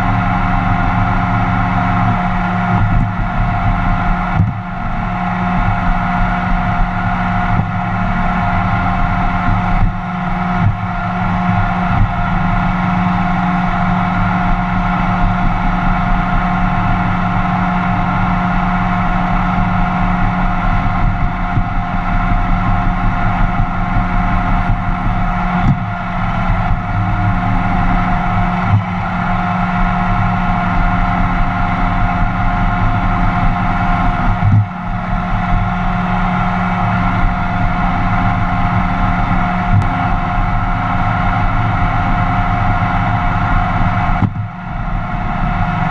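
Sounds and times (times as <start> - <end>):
robot vacuum motor hum and whine: 0.0 - 45.9.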